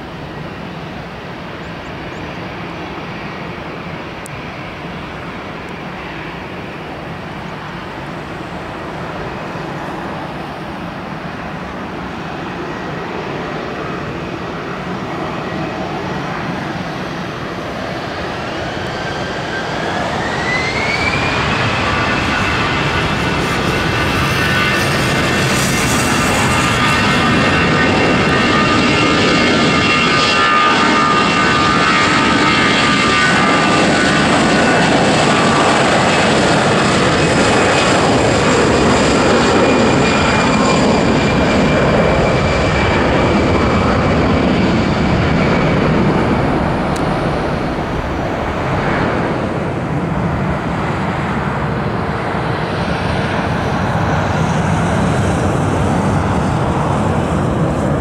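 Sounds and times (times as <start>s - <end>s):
jet engine roar: 0.0s - 58.0s
jet engine whine: 0.0s - 58.0s.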